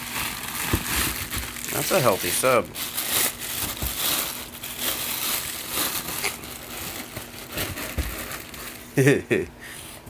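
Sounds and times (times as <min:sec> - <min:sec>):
packaging rustling and crinkling: 0:00.0 - 0:08.9.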